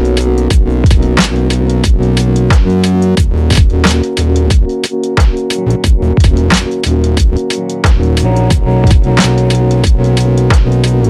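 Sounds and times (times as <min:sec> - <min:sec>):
deep bass notes dropping in pitch: 0:00.0 - 0:04.6, 0:05.6 - 0:11.0
fast drum beat: 0:00.0 - 0:11.0
held synth chords: 0:00.0 - 0:11.0.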